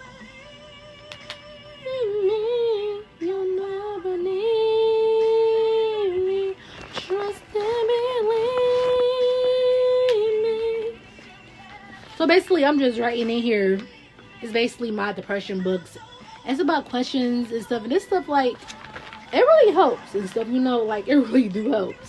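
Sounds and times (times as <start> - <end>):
woman singing slow melody: 0.0 - 22.0.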